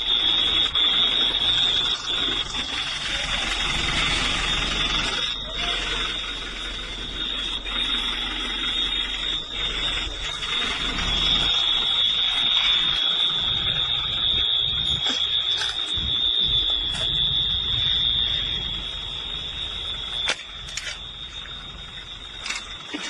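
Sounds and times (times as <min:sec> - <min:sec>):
high-pitched alarm tone: 0:00.0 - 0:23.0
low hum: 0:00.0 - 0:23.0.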